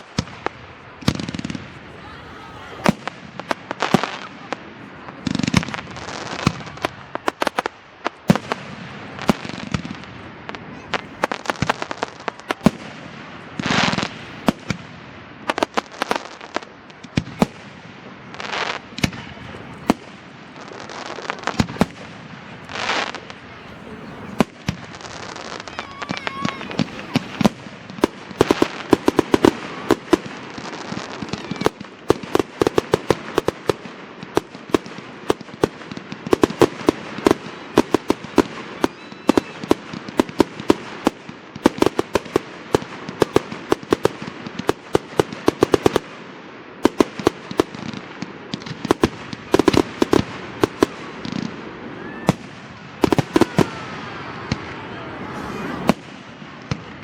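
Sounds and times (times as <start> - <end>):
fireworks bangs and cracks: 0.0 - 57.0.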